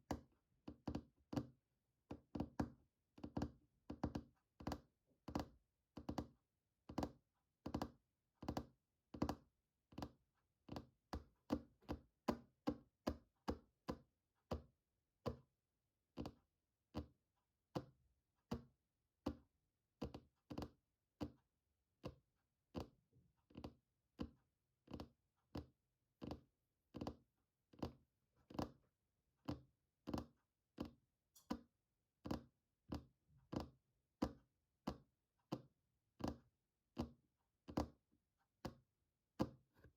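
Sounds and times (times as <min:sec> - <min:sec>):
fingertips tapping on hard object: 0:00.1 - 0:15.4, 0:22.0 - 0:28.8, 0:29.4 - 0:39.9.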